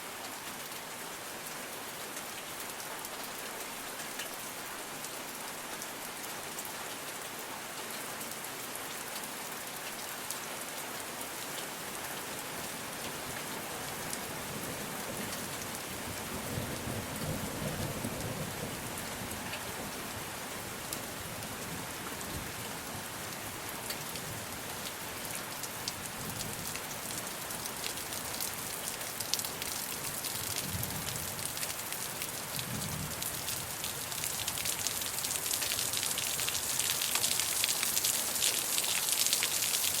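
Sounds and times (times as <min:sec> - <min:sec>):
rain falling on foliage: 0:00.0 - 0:40.0.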